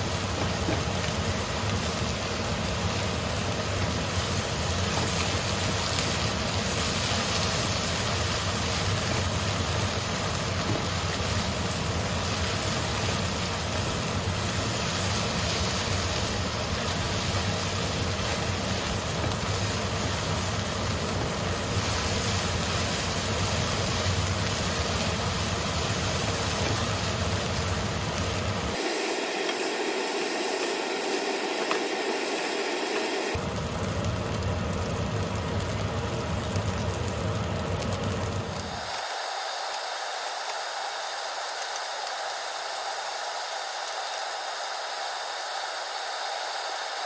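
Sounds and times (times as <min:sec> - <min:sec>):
constant hiss: 0:00.0 - 0:47.0
mechanical hum: 0:00.0 - 0:47.0.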